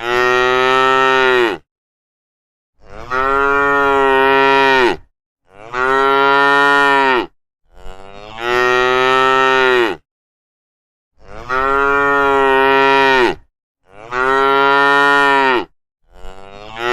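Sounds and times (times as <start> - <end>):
cows mooing: 0.0 - 1.6, 2.8 - 10.0, 11.2 - 16.9.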